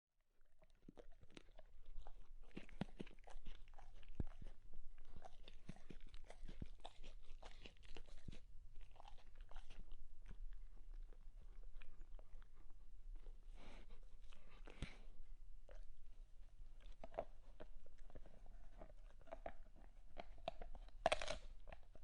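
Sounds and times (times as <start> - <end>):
dog chewing: 0.4 - 22.0.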